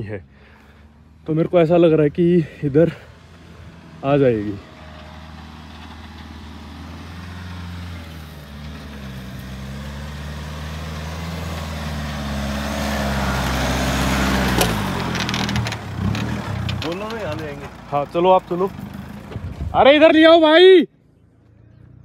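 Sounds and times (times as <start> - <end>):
suv engine under load: 0.3 - 20.1.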